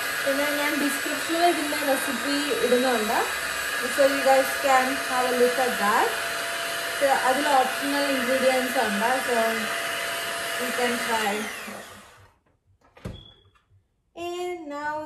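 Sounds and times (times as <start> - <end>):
electric hand mixer running: 0.0 - 12.4.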